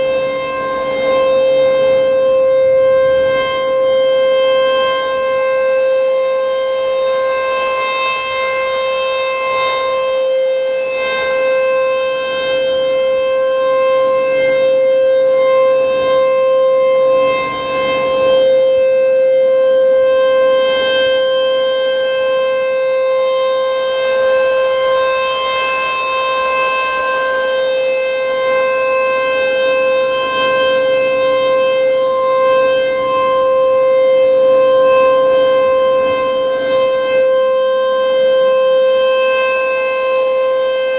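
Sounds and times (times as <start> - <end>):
tornado siren steady tone: 0.0 - 40.9.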